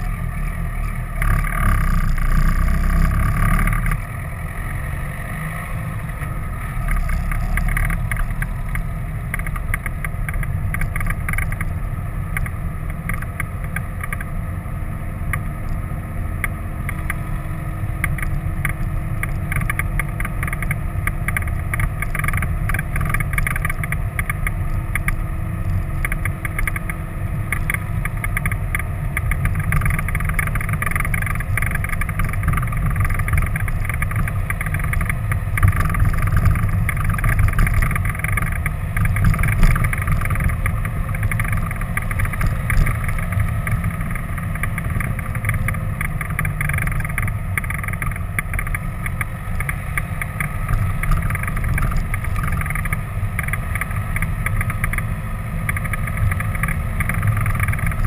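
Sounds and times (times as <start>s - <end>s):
vehicle engine and tyres rumbling: 0.0s - 58.0s.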